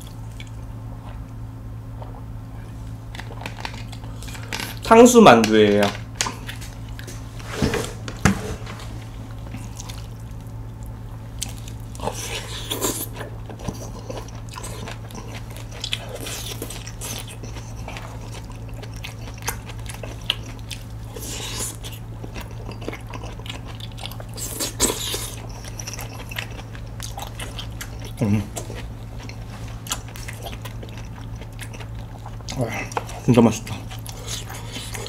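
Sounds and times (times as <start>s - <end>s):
crunching and wet chewing: 0.0s - 7.3s, 8.8s - 35.0s
steady low hum: 0.0s - 35.0s.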